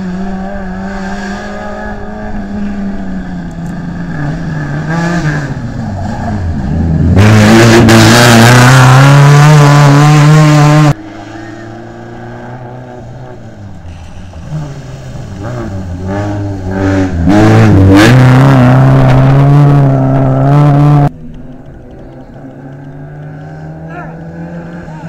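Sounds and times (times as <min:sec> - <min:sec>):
distant car engine: 0:00.0 - 0:25.0
rally car engine at full throttle: 0:00.0 - 0:25.0.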